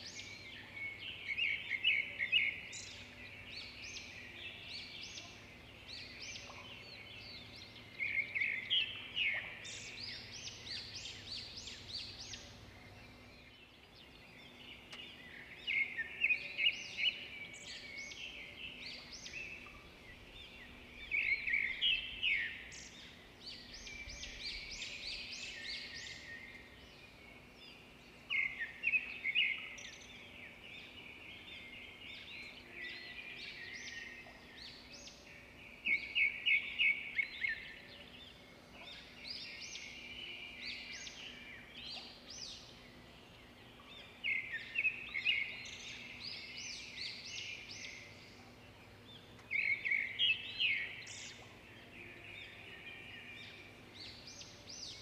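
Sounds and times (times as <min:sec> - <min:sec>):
songbird singing chirps and trills: 0:00.0 - 0:55.0.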